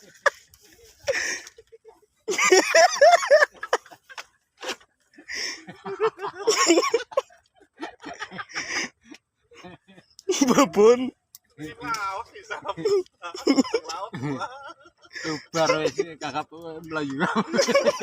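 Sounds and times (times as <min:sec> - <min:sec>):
people laughing and chattering: 0:00.0 - 0:18.0.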